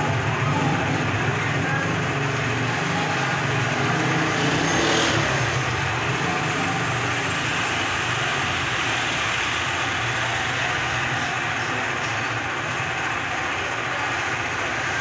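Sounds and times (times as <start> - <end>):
motorcycles passing: 0.0 - 15.0
traffic noise: 0.0 - 15.0.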